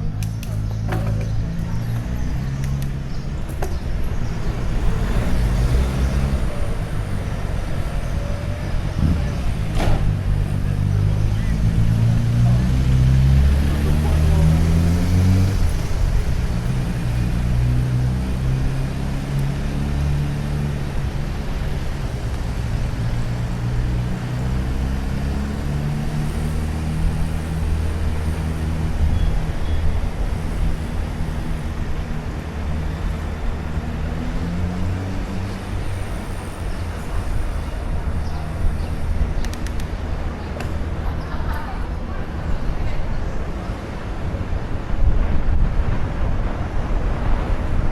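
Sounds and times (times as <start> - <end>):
low traffic rumble: 0.0 - 47.9
vehicle engine accelerating: 0.0 - 47.9.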